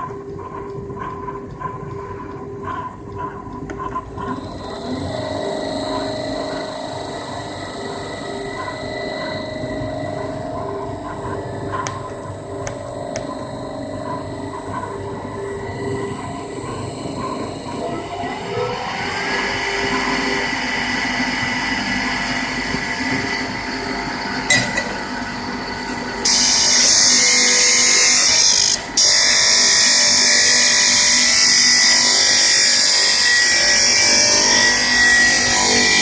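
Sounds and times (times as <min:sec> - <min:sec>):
grinder motor whine: 0:04.0 - 0:36.0.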